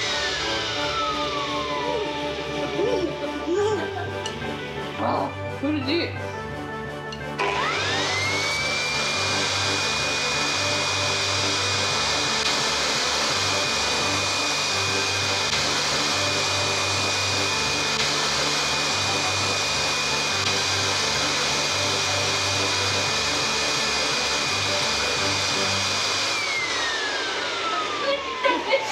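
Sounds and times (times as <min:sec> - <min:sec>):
hair dryer blowing: 0:00.0 - 0:05.1, 0:07.1 - 0:28.9
background music: 0:00.0 - 0:28.9.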